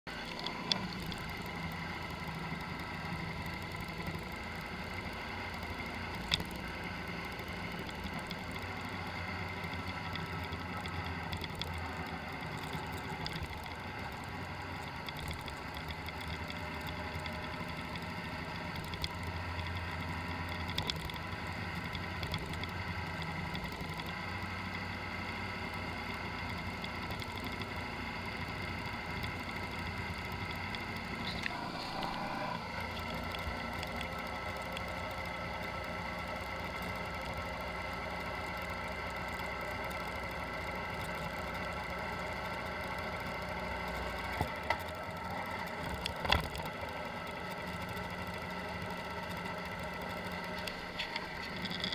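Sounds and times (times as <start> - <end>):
car engine humming: 0.0 - 51.9
faint steady whine: 0.1 - 51.9.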